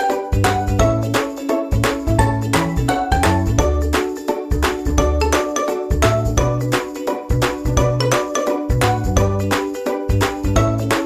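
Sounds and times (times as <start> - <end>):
bouncy upbeat music: 0.0 - 11.0.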